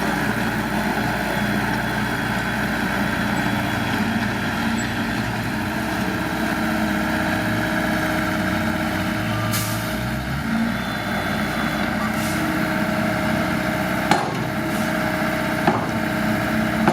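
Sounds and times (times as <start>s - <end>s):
diesel machinery running: 0.0s - 16.9s.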